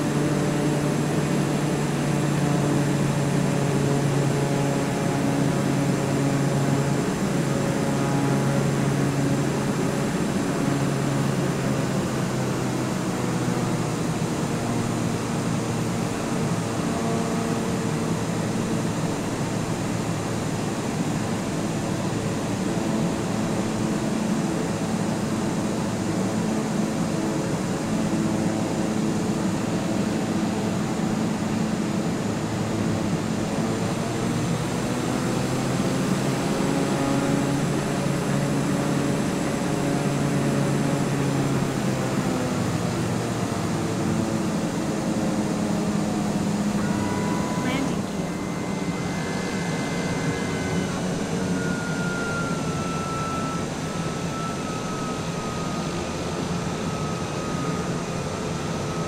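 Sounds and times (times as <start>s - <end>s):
constant rushing noise: 0.0s - 59.0s
engine drone: 0.0s - 59.0s.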